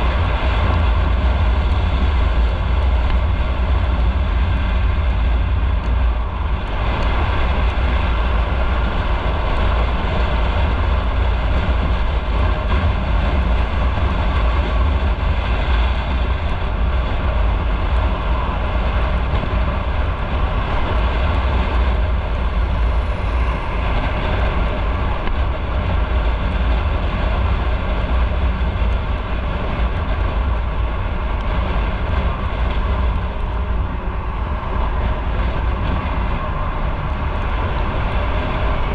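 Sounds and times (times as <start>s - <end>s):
motorcycle engine and road noise: 0.0s - 38.9s.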